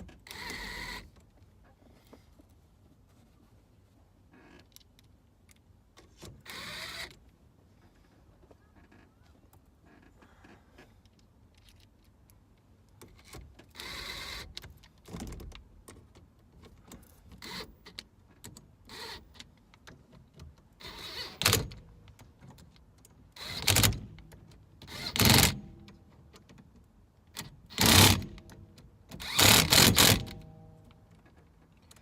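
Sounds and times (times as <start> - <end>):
small clicks and scrapes: 0.0 - 32.0.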